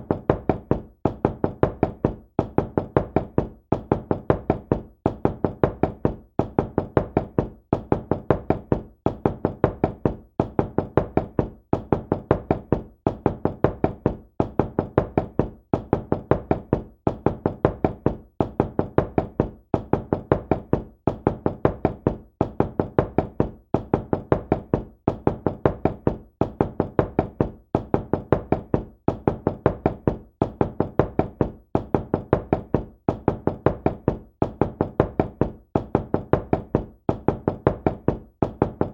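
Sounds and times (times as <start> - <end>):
knocking on a door: 0.0 - 38.9.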